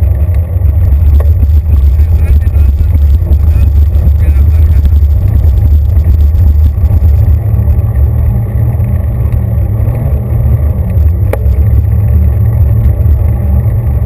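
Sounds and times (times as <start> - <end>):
bicycle tyres rumbling on pavement: 0.0 - 14.0.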